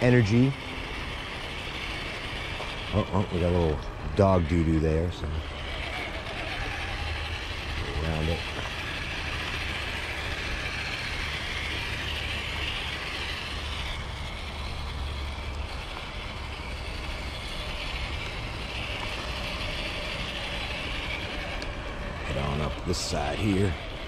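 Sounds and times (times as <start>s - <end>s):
toy car motor whirring: 0.0s - 24.0s.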